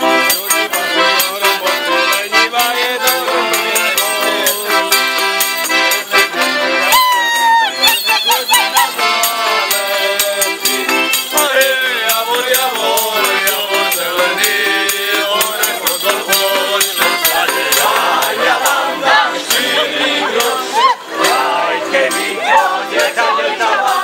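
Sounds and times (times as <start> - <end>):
group singing folk song: 0.0 - 24.0
shaken rattling percussion: 0.0 - 24.0.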